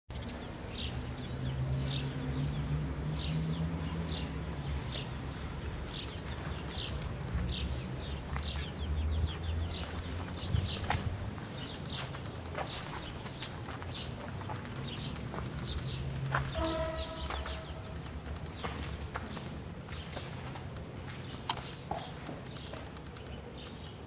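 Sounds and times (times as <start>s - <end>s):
small birds chirping: 0.1s - 24.0s.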